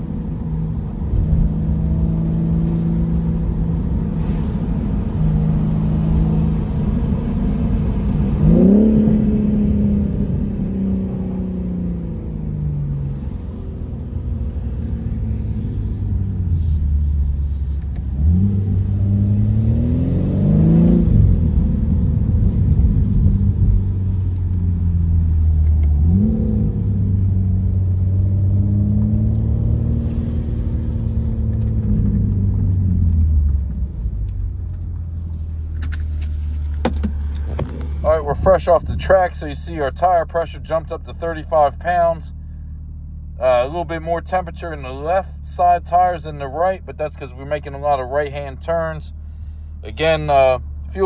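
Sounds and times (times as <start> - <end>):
car engine running under load: 0.0 - 51.0.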